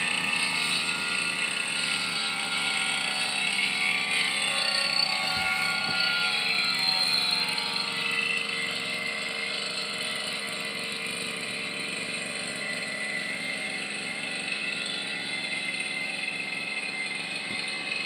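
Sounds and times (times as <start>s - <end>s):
brush cutter engine running: 0.0s - 18.0s.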